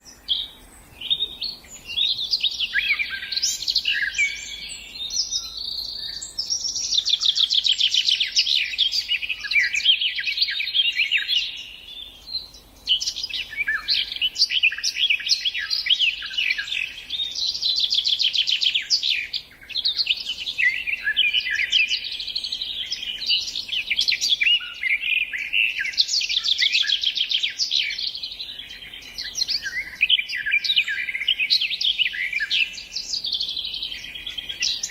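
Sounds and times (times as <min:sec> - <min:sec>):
songbirds trilling and chirping: 0:00.0 - 0:34.9.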